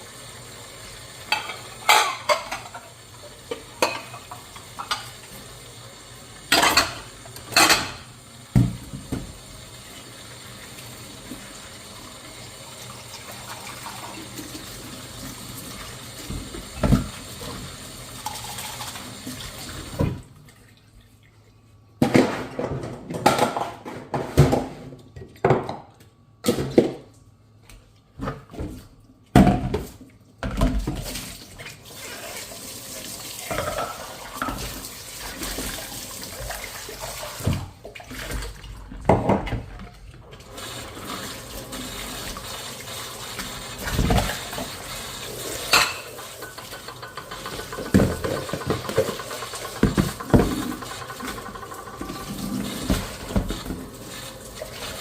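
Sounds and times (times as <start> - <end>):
water running over dishes: 0.0 - 21.8, 29.7 - 55.0.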